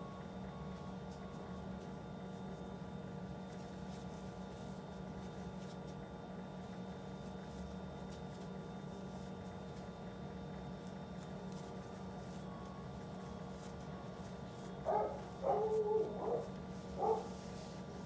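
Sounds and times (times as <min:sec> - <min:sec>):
low room tone hum: 0:00.0 - 0:18.0.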